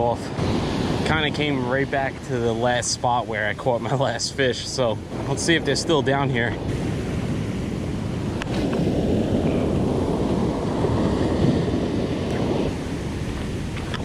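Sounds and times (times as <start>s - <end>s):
ocean surf washing ashore: 0.0s - 14.0s
wind rumbling on microphone: 0.0s - 14.0s.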